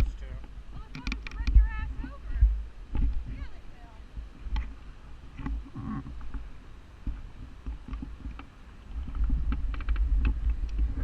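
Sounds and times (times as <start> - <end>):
wind and road rumble: 0.0 - 11.0.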